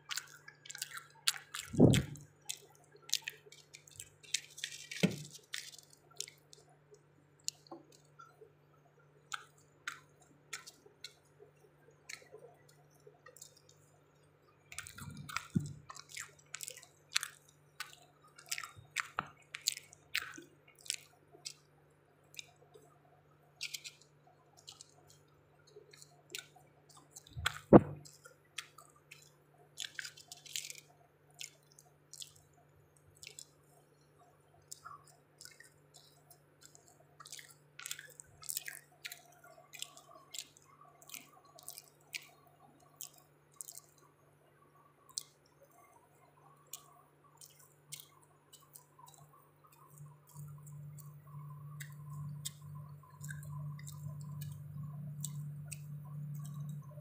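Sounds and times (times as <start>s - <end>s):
chewing and lip smacks: 0.0s - 57.0s
low steady hum: 0.0s - 57.0s.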